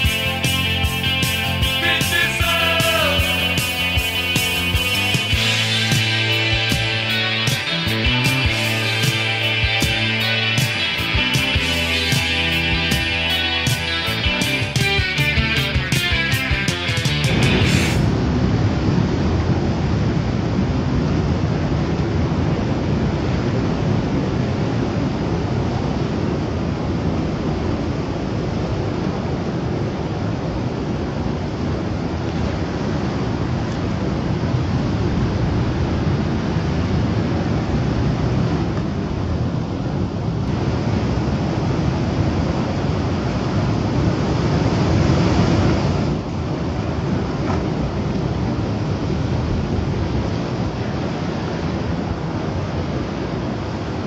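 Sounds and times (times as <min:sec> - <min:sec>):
heavy surf breaking over rocks: 0:00.0 - 0:54.0
ocean waves crashing: 0:00.0 - 0:54.0.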